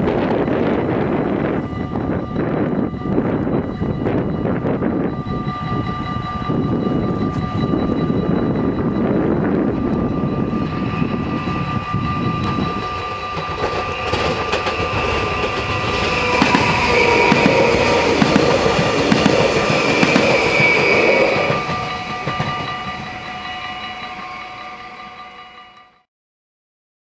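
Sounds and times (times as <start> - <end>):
train wheels clattering on rails: 0.0 - 25.6
train whine: 0.0 - 26.1.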